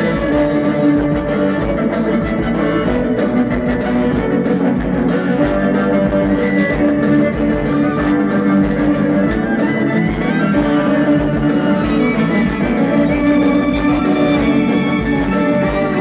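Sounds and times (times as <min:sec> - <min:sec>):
amplified string trio: 0:00.0 - 0:16.0
steady beat: 0:00.0 - 0:16.0.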